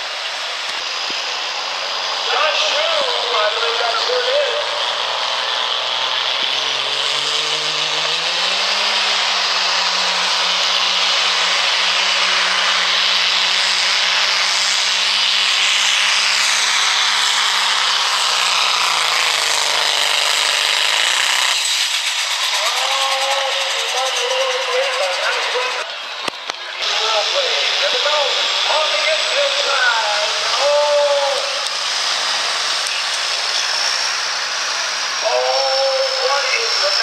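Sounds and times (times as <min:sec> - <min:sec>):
diesel pickup engine at full throttle: 0:00.0 - 0:37.0
high whine: 0:00.0 - 0:37.0.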